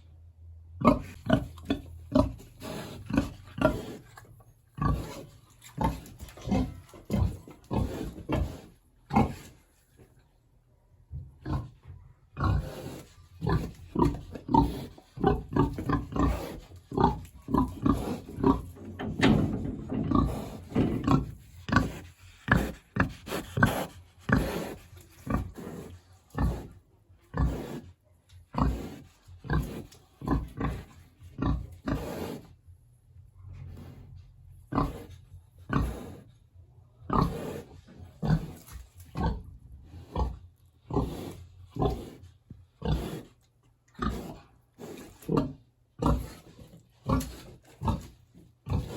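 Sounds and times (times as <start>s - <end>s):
pig grunting: 0.8s - 9.8s, 11.4s - 32.6s, 33.5s - 36.4s, 37.0s - 48.9s.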